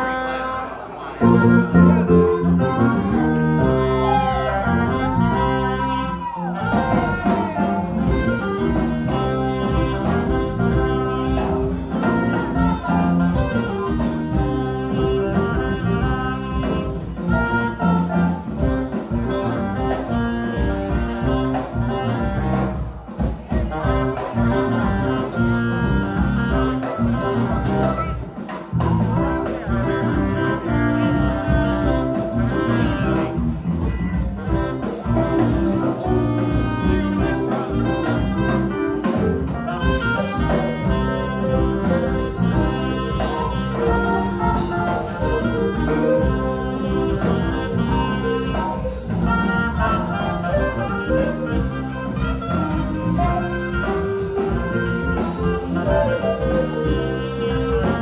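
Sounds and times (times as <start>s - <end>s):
live band with electric guitars: 0.0s - 58.0s.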